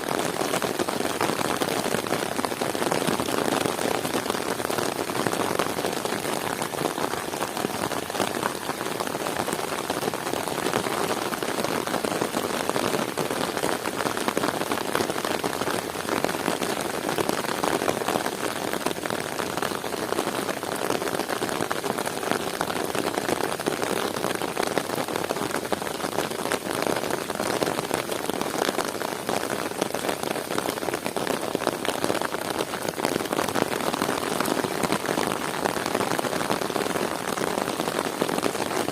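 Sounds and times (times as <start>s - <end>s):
heavy rain on ground and plants: 0.0s - 38.9s.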